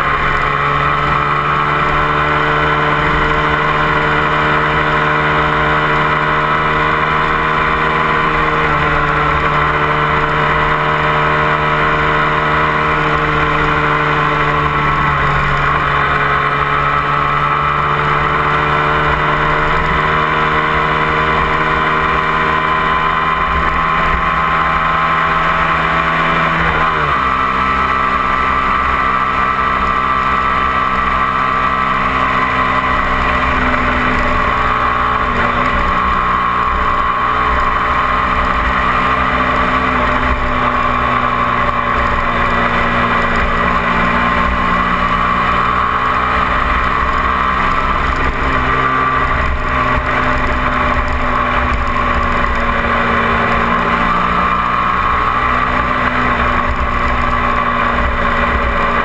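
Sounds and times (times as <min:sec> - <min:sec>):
motorcycle engine under load: 0:00.0 - 0:59.0.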